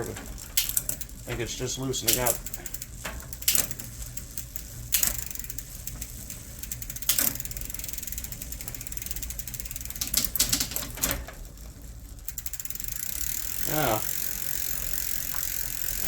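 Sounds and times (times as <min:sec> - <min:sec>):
bicycle chain shifting clunks: 0:00.0 - 0:16.0
bicycle chain ticking: 0:00.0 - 0:16.0.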